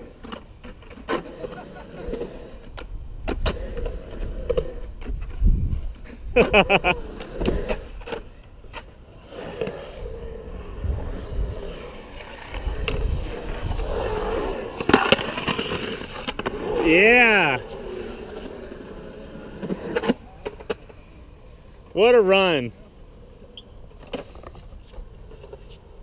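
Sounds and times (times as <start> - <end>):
skateboard wheels rolling on concrete: 0.0 - 26.0.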